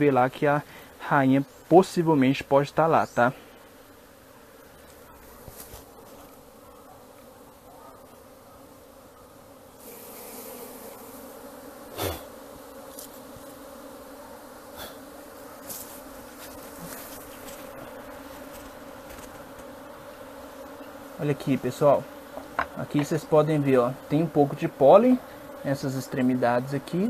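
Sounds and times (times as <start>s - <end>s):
honeybees buzzing: 0.0s - 27.0s.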